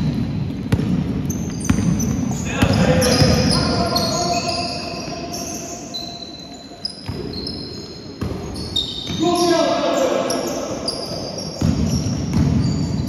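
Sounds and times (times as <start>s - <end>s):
shoes squeaking on floor: 1.2s - 13.0s.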